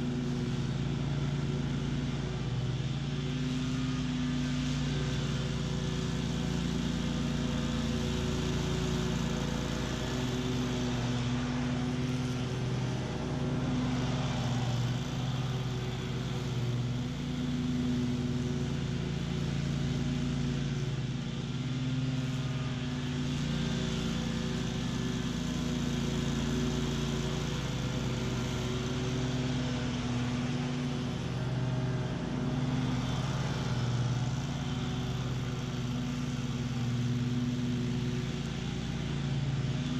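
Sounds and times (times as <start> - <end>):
lawn mower cutting weeds: 0.0 - 39.9.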